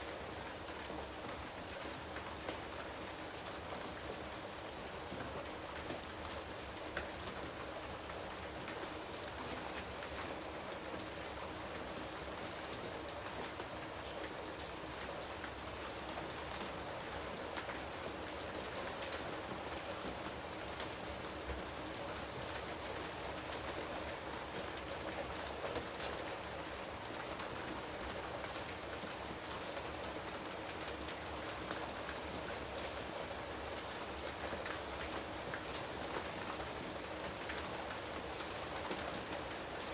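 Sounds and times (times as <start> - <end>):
steady rain hiss: 0.0 - 39.9
raindrops pattering close by: 0.1 - 39.9.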